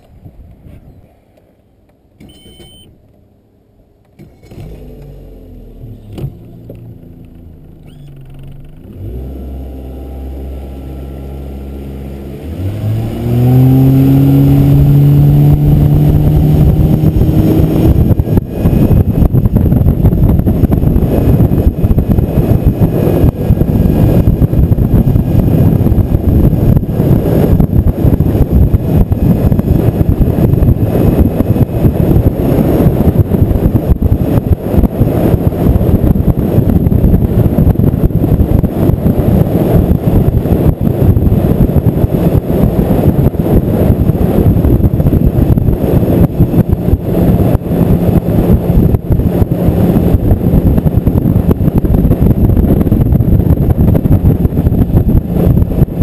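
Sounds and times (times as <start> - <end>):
outboard motor: 4.0 - 56.0
wind and water rushing: 8.9 - 56.0.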